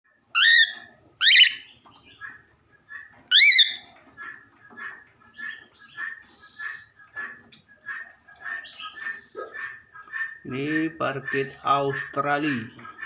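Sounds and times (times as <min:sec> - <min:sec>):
budgerigars calling: 0:00.4 - 0:13.0.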